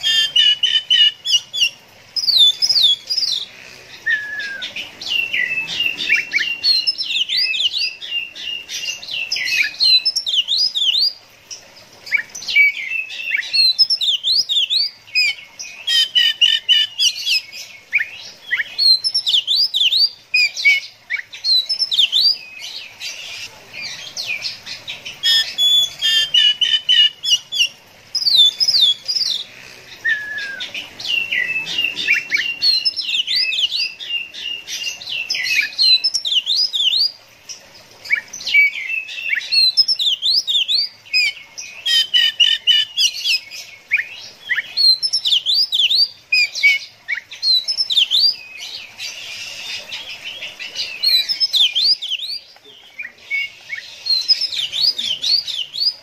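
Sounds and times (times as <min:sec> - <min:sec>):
bird singing whistles and trills: 0:00.0 - 0:03.4, 0:04.0 - 0:11.2, 0:12.1 - 0:22.9, 0:24.2 - 0:29.4, 0:30.0 - 0:37.2, 0:38.1 - 0:56.0.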